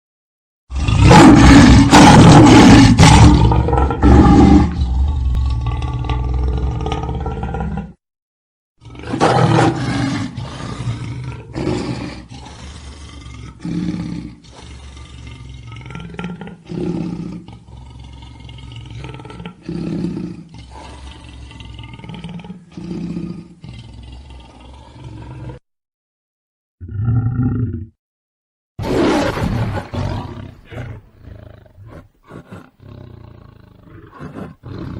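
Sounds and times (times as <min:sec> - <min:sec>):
lion roaring: 0:00.7 - 0:08.0, 0:08.8 - 0:25.6, 0:28.8 - 0:34.9.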